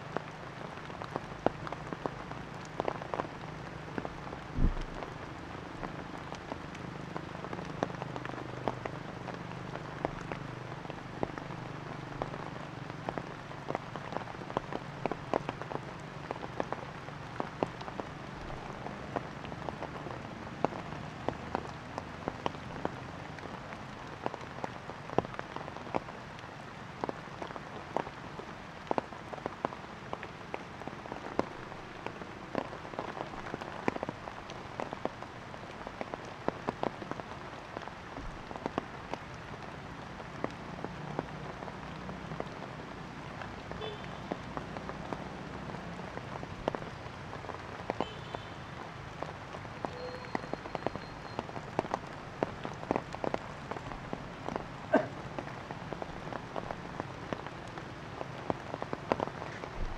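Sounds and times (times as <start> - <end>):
rain hissing: 0.0 - 59.9
raindrops striking close surfaces: 0.0 - 59.9.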